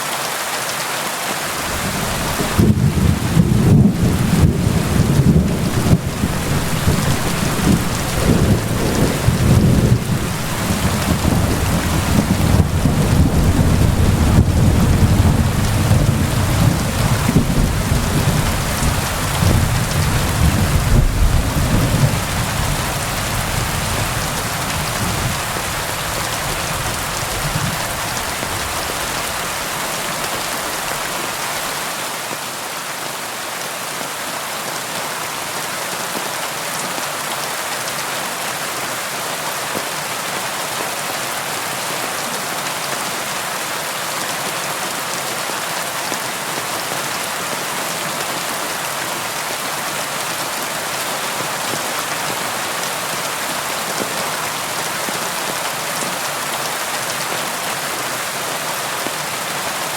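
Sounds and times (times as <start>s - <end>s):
rain pattering: 0.0s - 32.5s, 35.4s - 59.9s.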